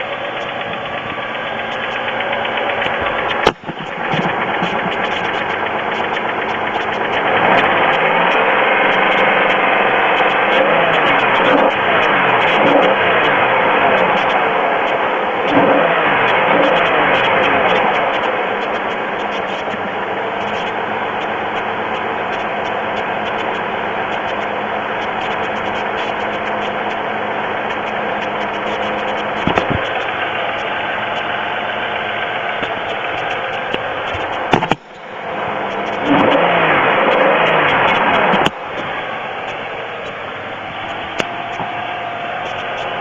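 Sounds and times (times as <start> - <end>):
car engine running: 0.0 - 43.0
engine ticking noise: 0.0 - 43.0.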